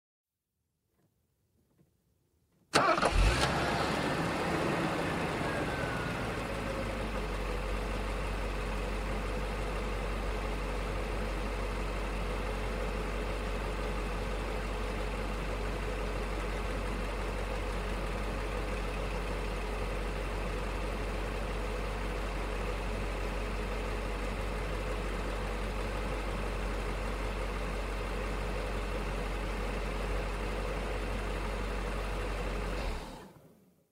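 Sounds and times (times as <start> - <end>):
car engine idling: 2.8 - 33.2.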